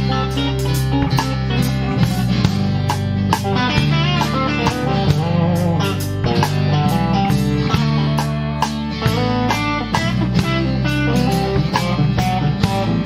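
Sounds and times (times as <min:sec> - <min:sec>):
drum beat: 0:00.0 - 0:13.0
electric bass: 0:00.0 - 0:13.0
electric guitars: 0:00.0 - 0:13.0.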